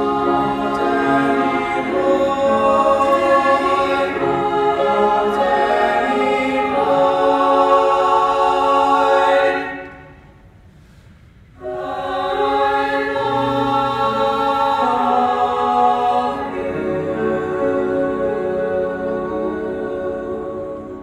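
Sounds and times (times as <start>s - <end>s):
choir singing sustained chords: 0.0s - 10.9s, 11.6s - 21.0s.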